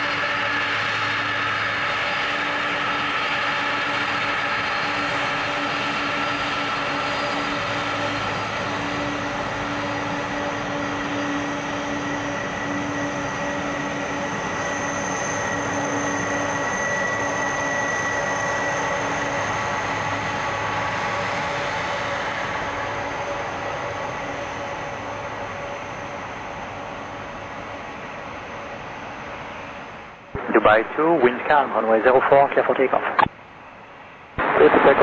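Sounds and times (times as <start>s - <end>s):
jet engines taxiing: 0.0s - 35.0s.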